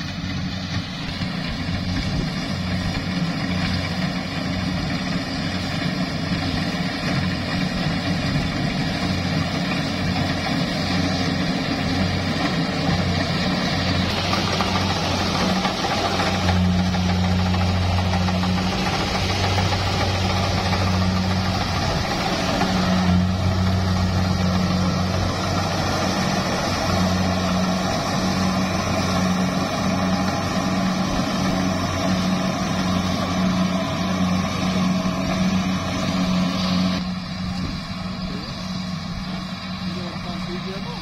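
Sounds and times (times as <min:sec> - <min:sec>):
combine harvester engine running: 0:00.0 - 0:41.0
threshing machinery working: 0:00.0 - 0:41.0.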